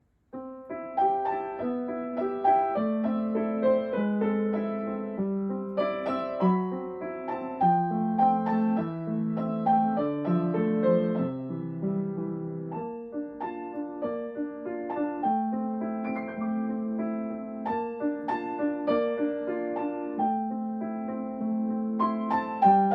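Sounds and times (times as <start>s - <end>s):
solo piano piece: 0.0s - 22.9s.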